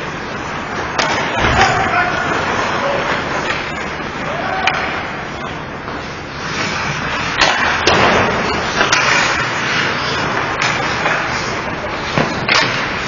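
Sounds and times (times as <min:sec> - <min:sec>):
hockey sticks and puck clacking: 0:00.0 - 0:13.0
skate blades scraping ice: 0:00.0 - 0:13.0.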